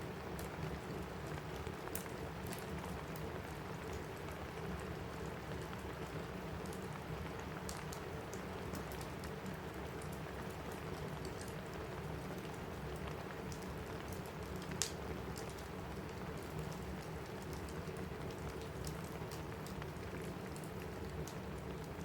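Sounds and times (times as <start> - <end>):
rain on a roof: 0.0 - 22.0
wood fire crackling: 0.0 - 22.0.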